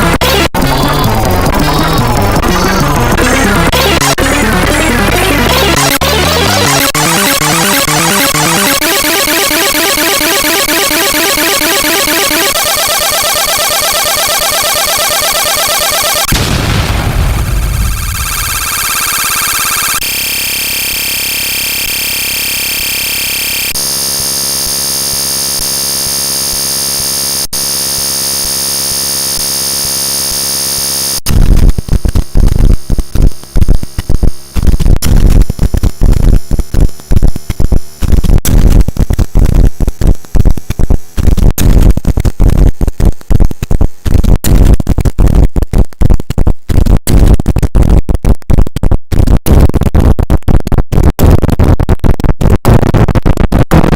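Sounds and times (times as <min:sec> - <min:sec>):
harsh crackling noise: 0:00.0 - 0:27.4, 0:31.2 - 0:53.9.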